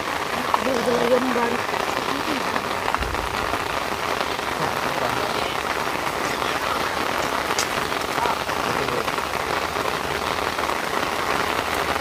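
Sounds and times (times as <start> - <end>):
heavy rain on foliage: 0.0 - 12.0.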